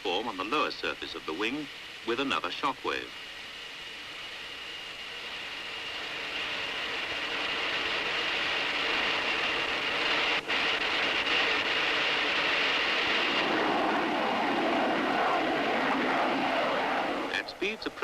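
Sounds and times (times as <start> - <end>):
jet aircraft roar and whine: 0.0 - 18.0.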